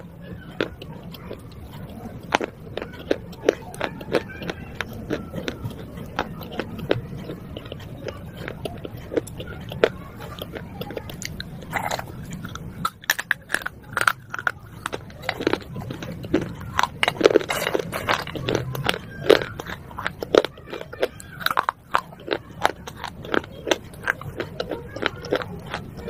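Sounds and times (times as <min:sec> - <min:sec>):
brittle crunches of chewing pottery: 0:00.0 - 0:26.0.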